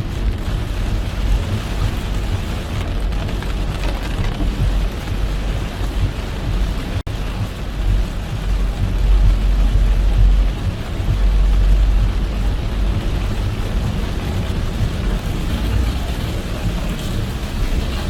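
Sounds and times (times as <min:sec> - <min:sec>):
rain hiss and road spray: 0:00.0 - 0:18.0
road and tyre rumble: 0:00.0 - 0:18.0.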